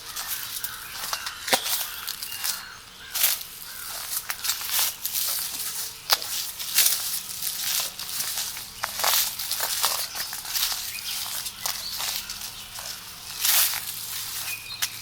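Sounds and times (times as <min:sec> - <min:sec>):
footsteps on a path: 0:00.0 - 0:15.0
rustling: 0:00.0 - 0:15.0.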